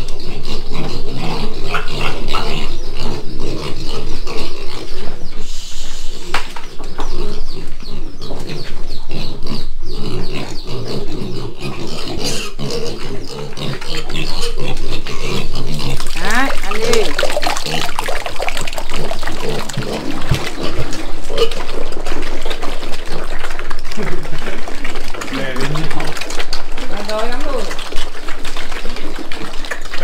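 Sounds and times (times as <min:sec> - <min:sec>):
piglets grunting: 0:00.0 - 0:30.0.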